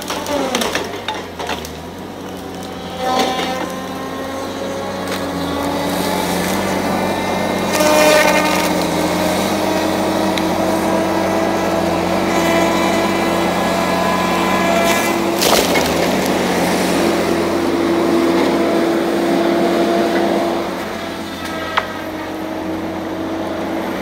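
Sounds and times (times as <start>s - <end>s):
heavy machine engine and hydraulics: 0.0s - 24.0s.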